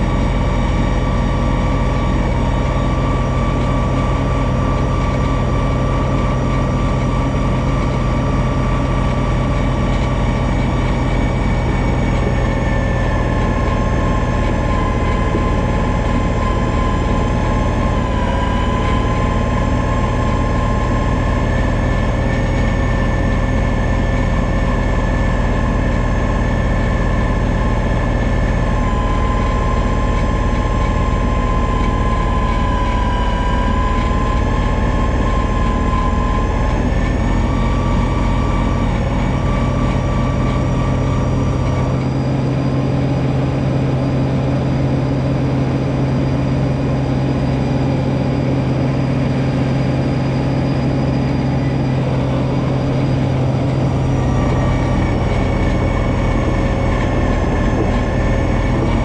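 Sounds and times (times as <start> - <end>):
steady whine: 0.0 - 59.0
tractor diesel engine running: 0.0 - 59.0.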